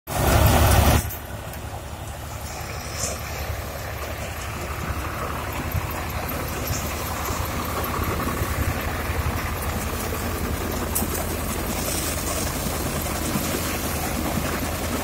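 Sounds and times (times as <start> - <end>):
low engine drone: 0.1 - 15.0.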